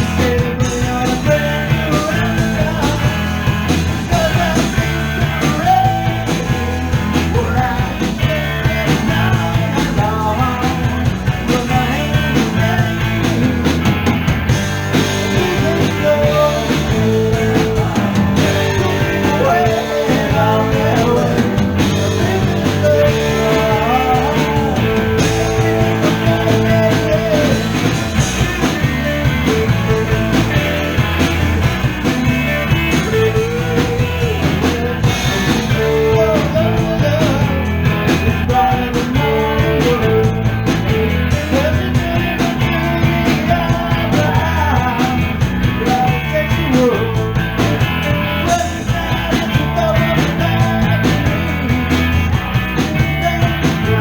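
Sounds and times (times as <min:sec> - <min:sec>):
drum kit: 0:00.0 - 0:54.0
guitar: 0:00.0 - 0:54.0
rock band playing live: 0:00.0 - 0:54.0.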